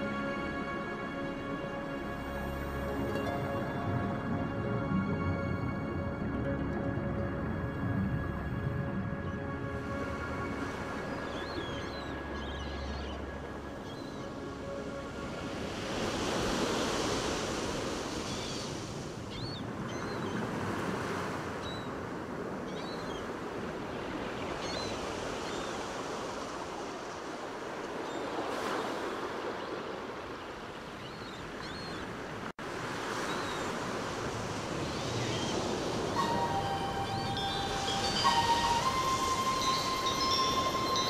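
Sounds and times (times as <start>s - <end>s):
ocean waves washing in: 0.0s - 41.0s.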